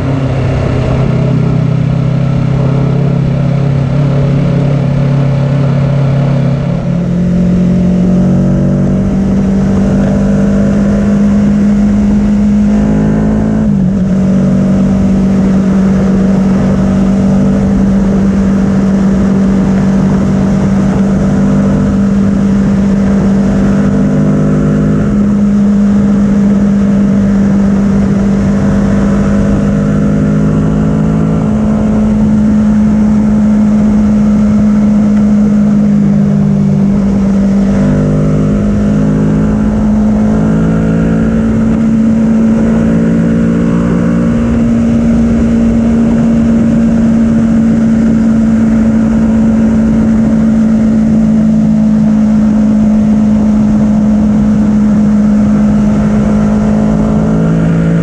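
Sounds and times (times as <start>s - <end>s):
motorcycle engine at high revs: 0.0s - 58.0s
wind rush on microphone: 0.0s - 58.0s.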